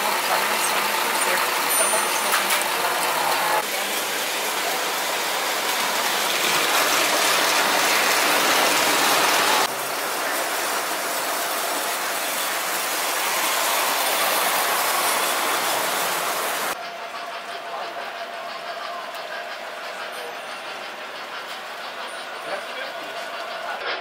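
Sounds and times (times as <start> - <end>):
toy trains rattling on metal track: 0.0 - 24.0.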